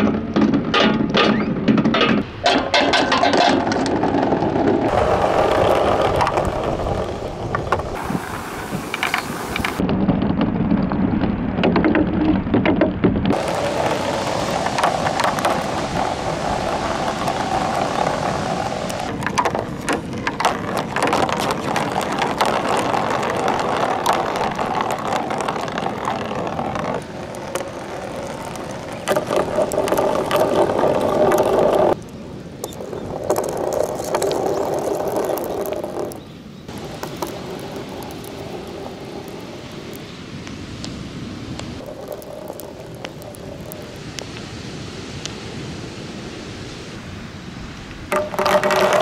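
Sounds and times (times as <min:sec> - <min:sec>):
plastic balls rolling in gutters: 0:00.0 - 0:44.2, 0:48.1 - 0:49.0
balls clicking and knocking: 0:00.0 - 0:44.3, 0:48.1 - 0:49.0.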